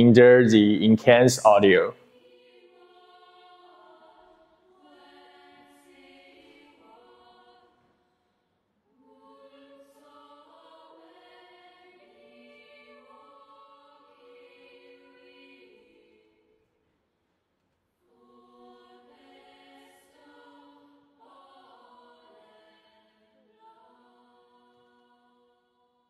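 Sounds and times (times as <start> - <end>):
faint choral music: 0.0 - 17.1, 18.0 - 26.0.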